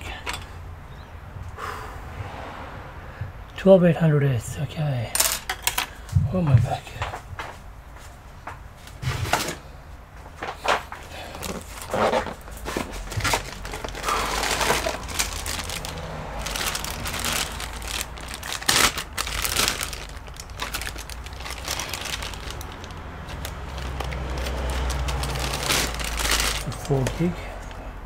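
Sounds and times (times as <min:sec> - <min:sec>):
crinkling and rustling: 0:05.2 - 0:27.8.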